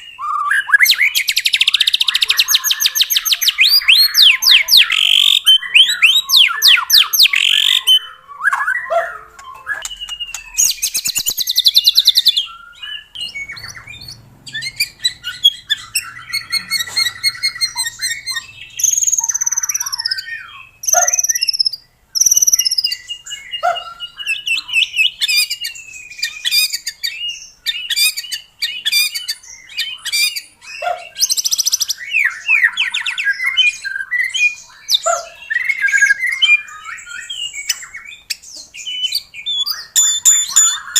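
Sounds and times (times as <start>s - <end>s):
songbird whistles and trills: 0.0s - 40.9s.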